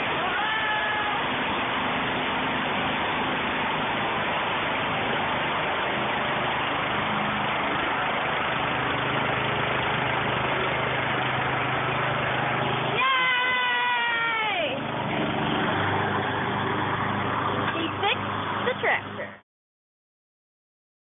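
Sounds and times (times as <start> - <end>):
riding mower engine running: 0.0 - 19.4.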